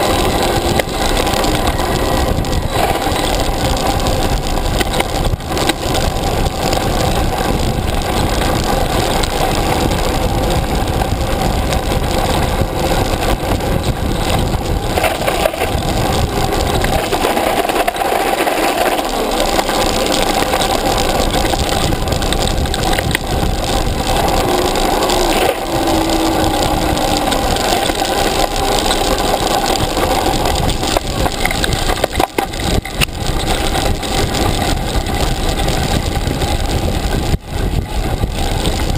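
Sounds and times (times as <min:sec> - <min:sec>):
vehicle riding on gravel track: 0:00.0 - 0:38.9.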